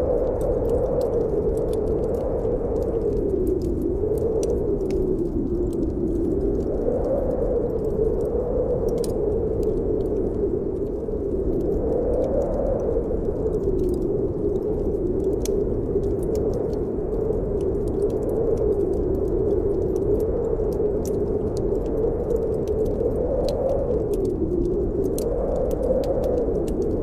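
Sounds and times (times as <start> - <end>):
wind howling: 0.0 - 27.0
wood fire crackling: 0.0 - 27.0.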